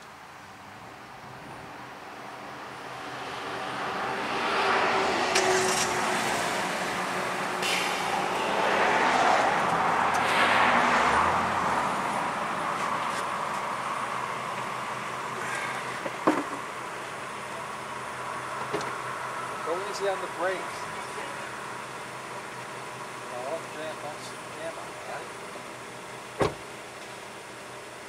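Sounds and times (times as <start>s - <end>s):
vehicle passing road noise: 0.5s - 25.3s.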